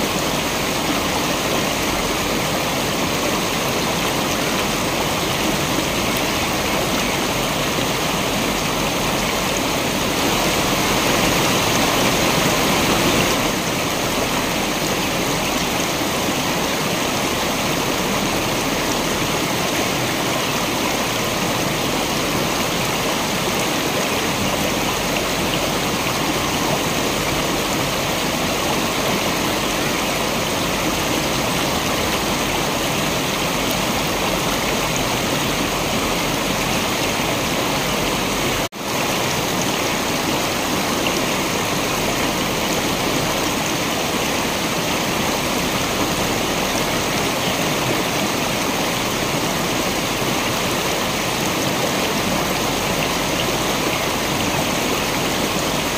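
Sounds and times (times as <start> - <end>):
waterfall and rushing stream: 0.0 - 55.9.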